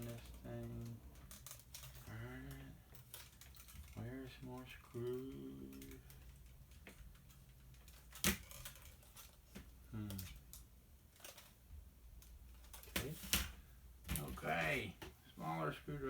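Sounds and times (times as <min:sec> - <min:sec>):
small parts clicking and tapping: 0:00.0 - 0:14.4.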